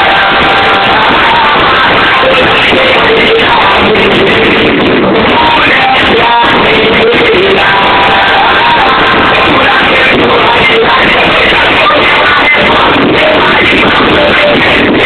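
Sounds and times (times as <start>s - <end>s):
loud music with singing: 0.0s - 15.0s.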